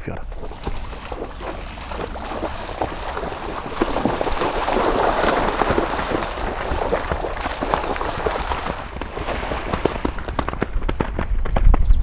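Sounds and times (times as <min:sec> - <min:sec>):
hooves splashing in water: 0:00.1 - 0:11.3.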